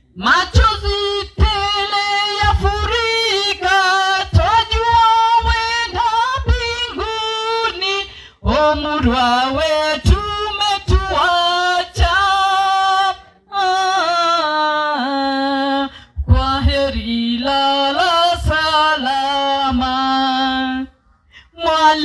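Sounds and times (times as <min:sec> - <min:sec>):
woman singing unaccompanied: 0:00.2 - 0:22.0.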